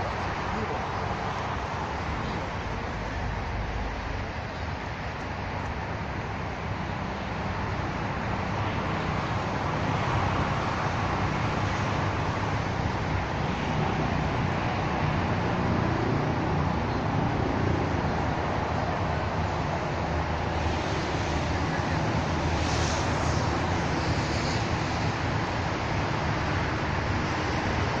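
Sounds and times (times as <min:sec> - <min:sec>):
distant road traffic rumble: 0:00.0 - 0:28.0.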